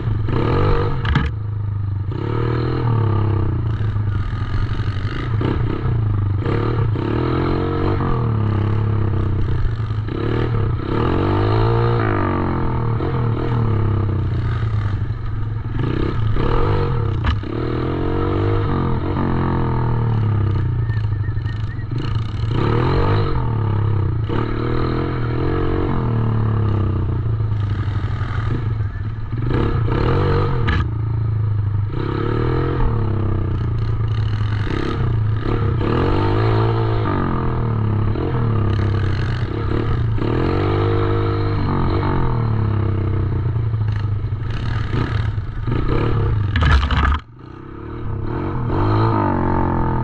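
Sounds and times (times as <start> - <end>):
dirt bike engine revving: 2.0 - 30.9, 31.8 - 50.0.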